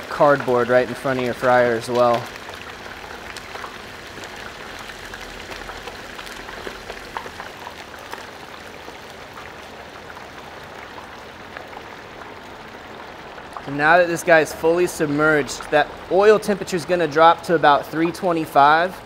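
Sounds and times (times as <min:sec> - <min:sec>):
frying oil bubbling and sizzling: 0:00.0 - 0:19.0.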